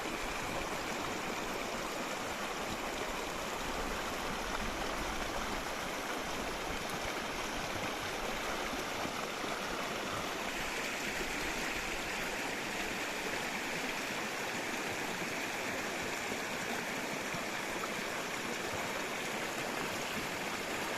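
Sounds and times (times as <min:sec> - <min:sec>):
flowing water rushing: 0:00.0 - 0:20.9.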